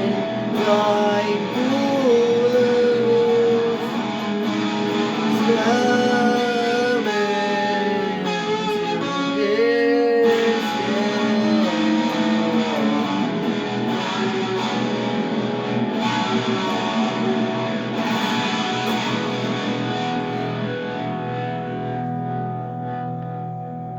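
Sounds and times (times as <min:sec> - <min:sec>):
electric guitar playing: 0:00.0 - 0:23.9.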